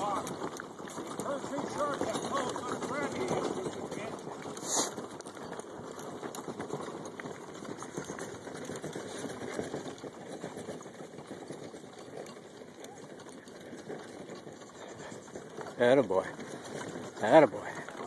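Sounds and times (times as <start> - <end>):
horse hooves: 0.0 - 18.0
wagon clattering: 0.0 - 18.0.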